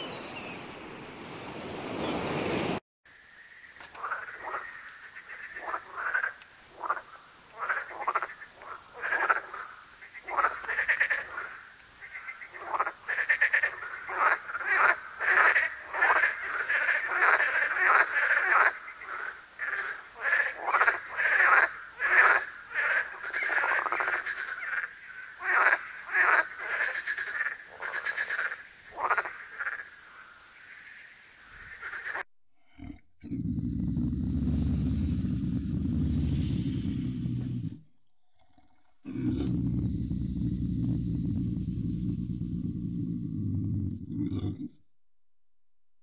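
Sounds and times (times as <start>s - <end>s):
frog croaking: 3.4s - 37.8s, 38.4s - 44.5s.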